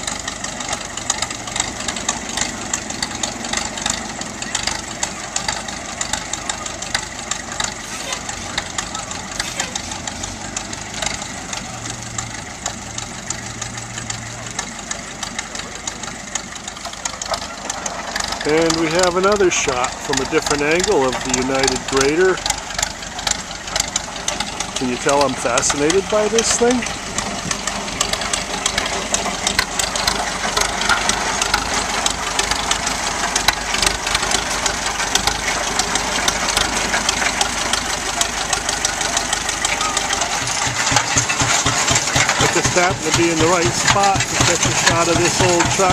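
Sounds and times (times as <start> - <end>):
fast clattering engine knock: 0.0 - 45.9
grader engine running: 0.0 - 45.9.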